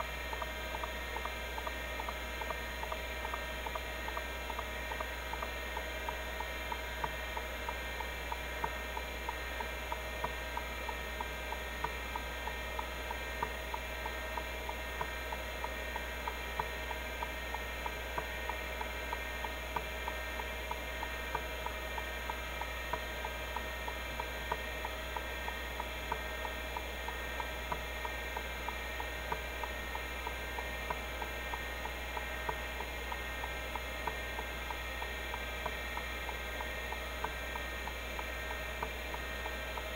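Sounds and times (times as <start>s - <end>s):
hard drive head clicking: 0.0s - 39.9s
hard drive motor humming: 0.0s - 39.9s.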